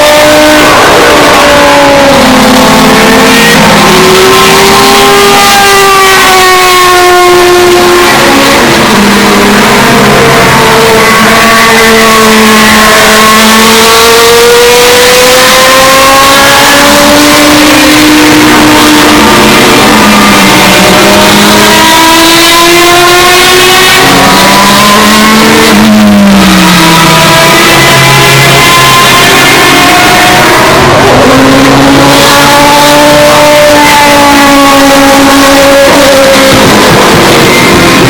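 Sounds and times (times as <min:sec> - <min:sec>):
race car engines accelerating: 0:00.0 - 0:38.0.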